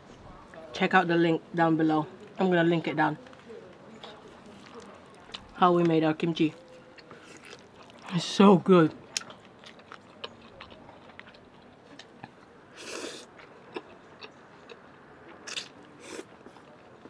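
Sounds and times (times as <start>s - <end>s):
wet chewing clicks: 3.2s - 17.0s.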